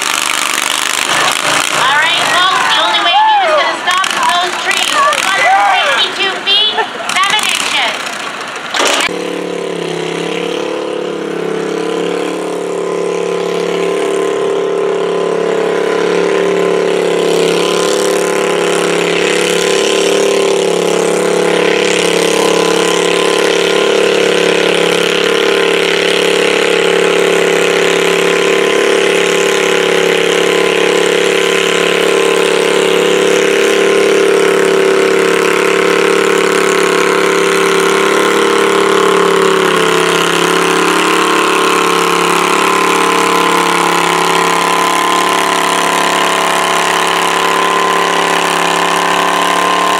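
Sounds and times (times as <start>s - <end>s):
tractor engine at full throttle: 0.0s - 49.9s.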